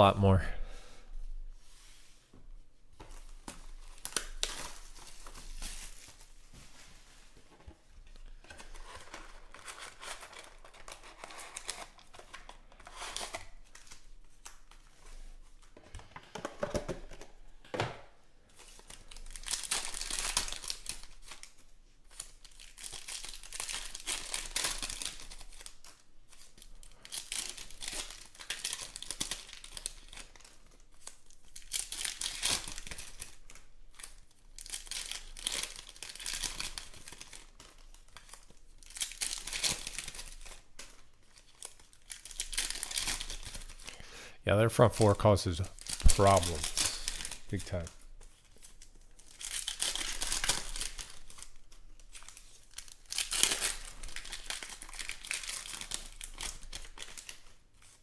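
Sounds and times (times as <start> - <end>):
foil wrappers crinkling and tearing: 3.0 - 7.1, 8.0 - 15.8, 18.5 - 44.0, 45.7 - 58.0.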